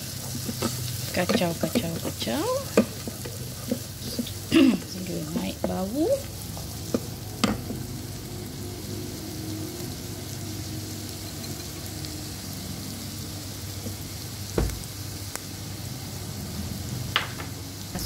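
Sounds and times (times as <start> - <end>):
onions sizzling in butter: 0.0 - 18.0.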